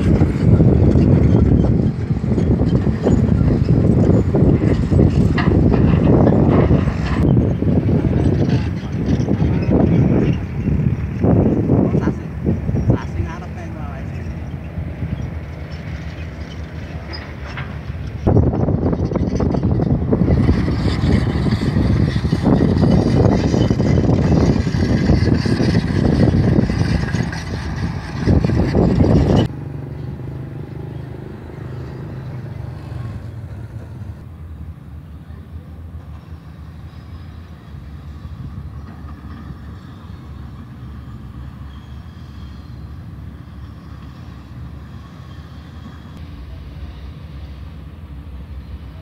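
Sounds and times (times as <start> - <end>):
drilling rig tracks and engine: 0.0 - 49.0.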